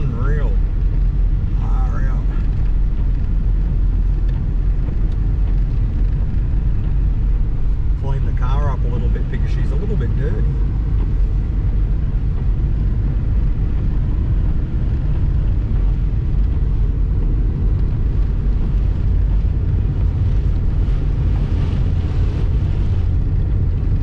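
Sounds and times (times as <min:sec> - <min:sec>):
car cabin engine rumble: 0:00.0 - 0:24.0
tyres on wet road: 0:00.0 - 0:24.0.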